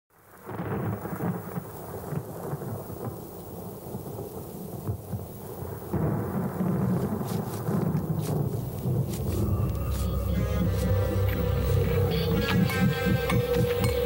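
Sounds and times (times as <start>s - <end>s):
low rolling thunder: 0.2s - 14.0s.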